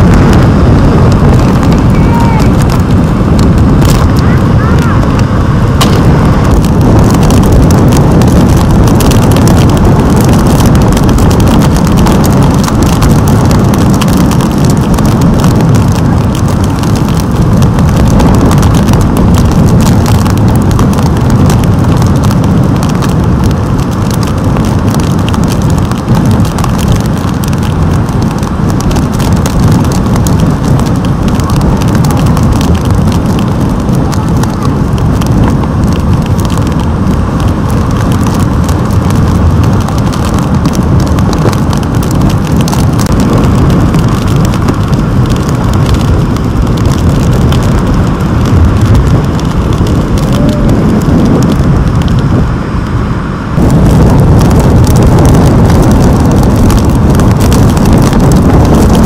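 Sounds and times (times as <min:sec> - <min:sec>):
roar of breaking waves: 0:00.0 - 0:59.0.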